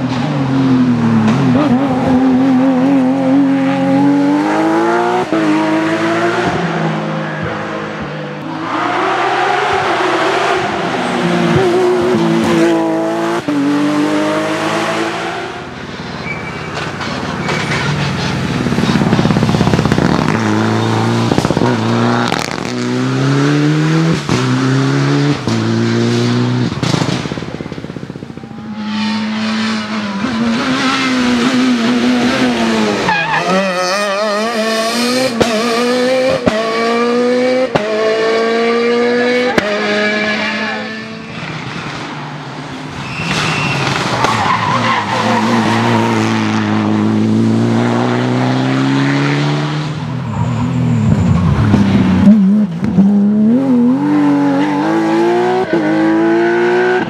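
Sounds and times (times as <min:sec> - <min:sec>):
rally cars passing: 0:00.0 - 0:57.0.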